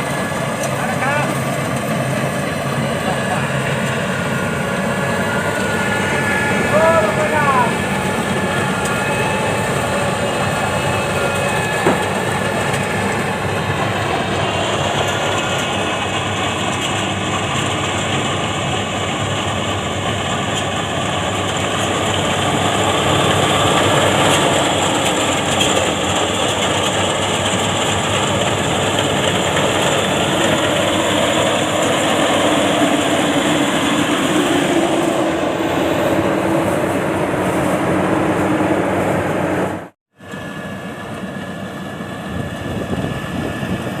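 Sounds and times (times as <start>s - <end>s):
combine harvester running: 0.0s - 44.0s.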